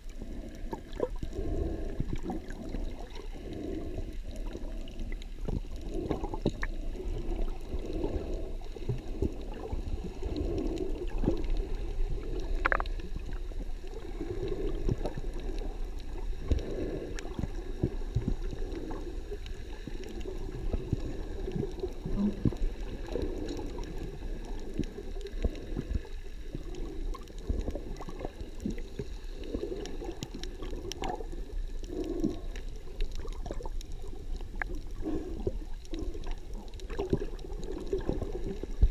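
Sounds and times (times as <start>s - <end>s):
muffled underwater water noise: 0.0s - 38.9s
small clicks and pops: 2.0s - 38.9s.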